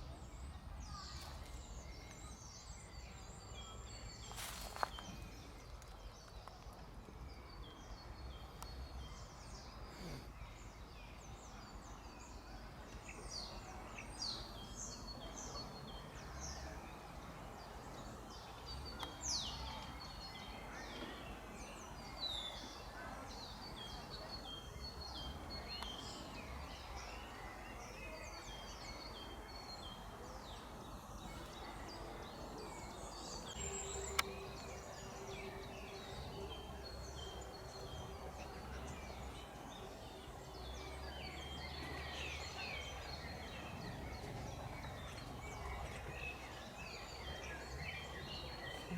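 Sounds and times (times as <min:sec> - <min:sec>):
small songbirds chirping: 0:00.0 - 0:48.9
steady outdoor hiss: 0:00.0 - 0:48.9.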